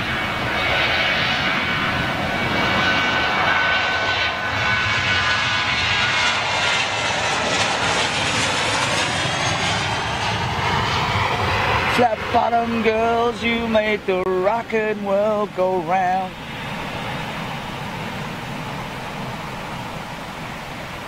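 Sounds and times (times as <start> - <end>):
high fan whine: 0.0 - 21.0
jet engines roaring: 0.0 - 21.0.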